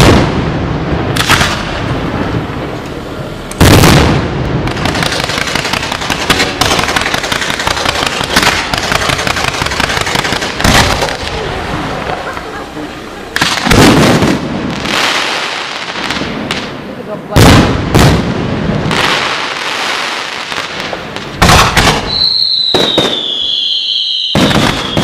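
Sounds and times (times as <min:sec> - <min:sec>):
firework shells booming: 0:00.0 - 0:02.9, 0:03.5 - 0:12.5, 0:13.3 - 0:25.0
fireworks crackling and popping: 0:00.0 - 0:25.0.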